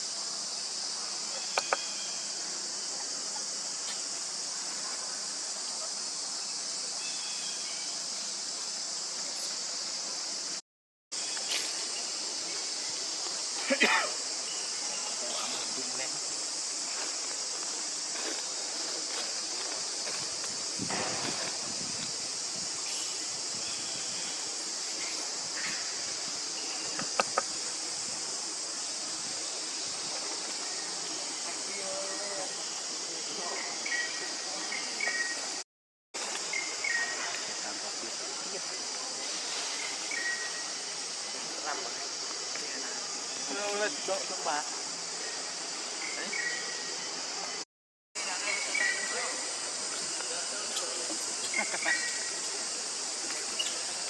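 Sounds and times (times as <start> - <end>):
background hiss: 0.0 - 35.6, 36.2 - 47.6, 48.2 - 54.0
forest insects chorus: 0.0 - 35.6, 36.2 - 47.6, 48.2 - 54.0.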